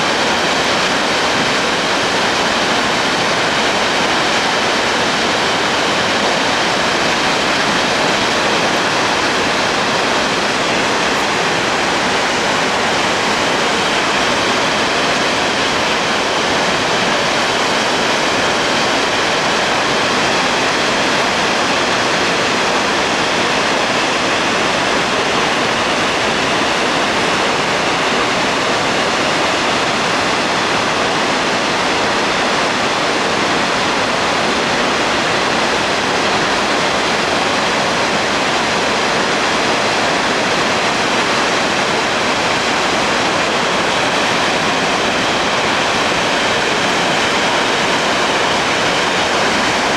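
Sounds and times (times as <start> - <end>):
water rushing from dam: 0.0 - 49.9.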